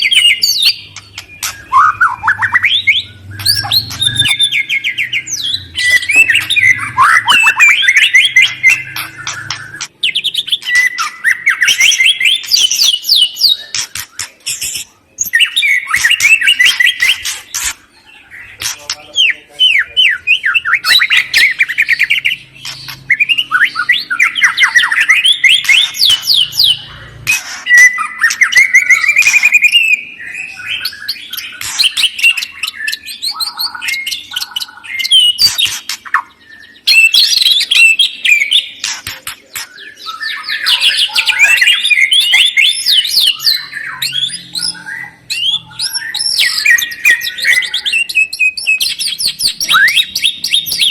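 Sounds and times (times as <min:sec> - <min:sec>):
songbird singing trilled phrases: 0:00.0 - 0:50.9.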